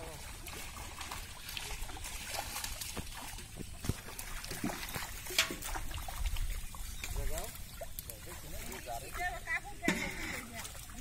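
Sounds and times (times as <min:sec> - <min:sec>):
pond water splashing and trickling: 0:00.0 - 0:11.0.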